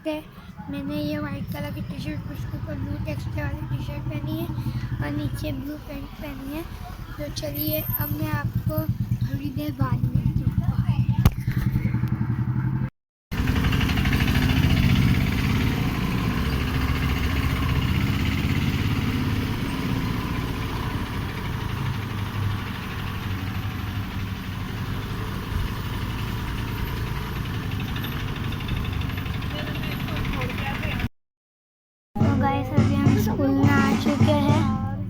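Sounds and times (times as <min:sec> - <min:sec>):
road noise: 0:00.0 - 0:31.1
vehicle engine running: 0:00.0 - 0:31.1, 0:32.2 - 0:35.0.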